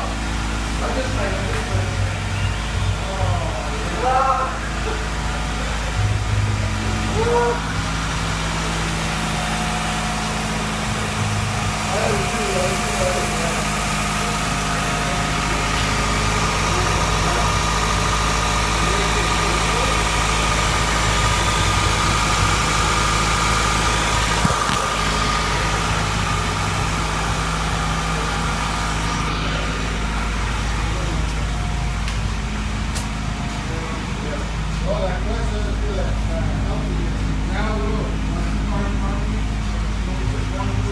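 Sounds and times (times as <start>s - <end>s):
car engine idling: 0.0s - 40.9s
steady whine: 0.0s - 40.9s.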